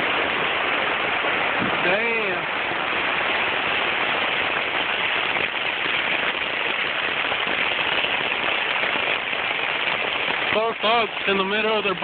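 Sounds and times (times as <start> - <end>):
rain pattering on a tent: 0.0 - 12.0.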